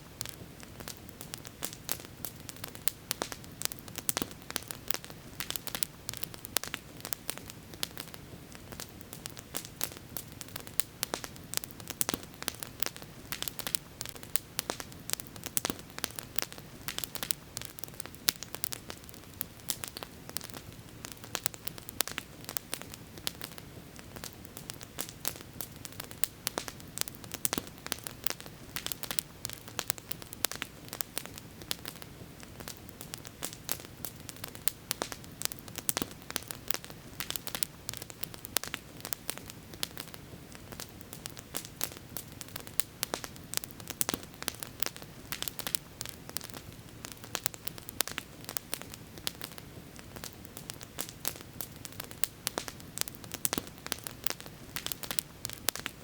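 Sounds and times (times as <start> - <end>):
campfire crackling and popping: 0.0 - 56.0
fire hissing: 0.1 - 56.0.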